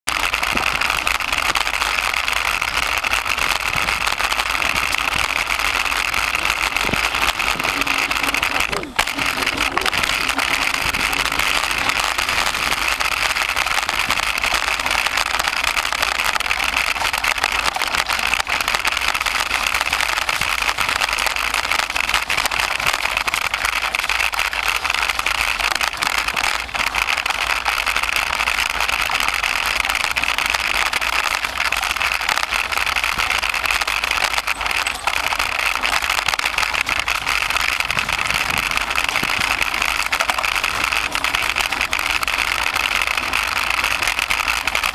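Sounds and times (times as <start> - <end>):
bike tyres rattling on dirt trail: 0.0 - 44.9.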